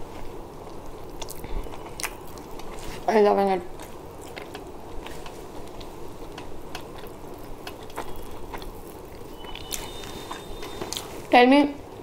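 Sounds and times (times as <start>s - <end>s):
low room hum: 0.0s - 12.0s
person chewing food: 0.1s - 3.1s, 3.7s - 11.3s.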